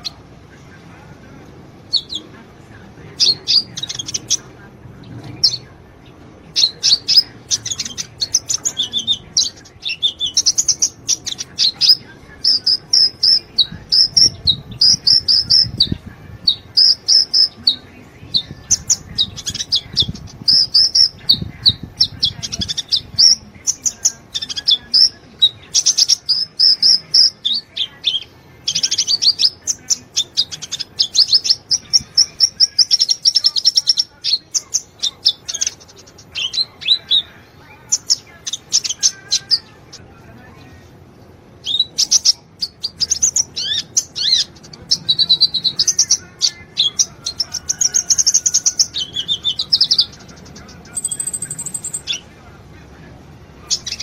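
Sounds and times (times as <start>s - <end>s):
bird chirping and trilling: 1.8s - 2.3s, 3.2s - 40.0s, 41.6s - 52.3s, 53.6s - 54.0s.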